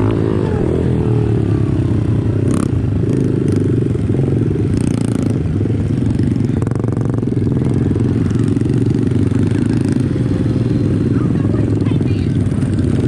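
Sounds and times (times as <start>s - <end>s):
motorbike engine running: 0.0s - 13.0s.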